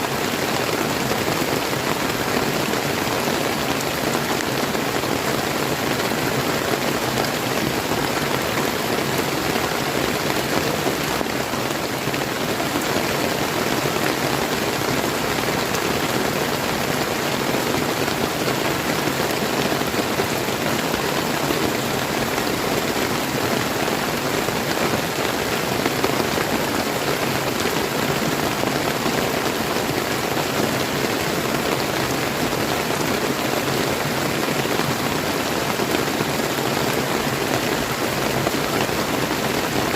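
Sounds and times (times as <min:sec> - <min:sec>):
river stream rushing: 0:00.0 - 0:39.9
steady rain falling: 0:00.0 - 0:39.9.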